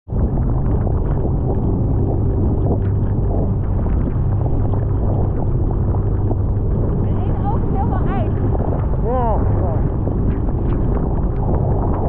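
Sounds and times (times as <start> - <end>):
boat engine drone: 0.1 - 12.0
water splashes: 0.1 - 12.0
wind and water rushing: 0.1 - 12.0.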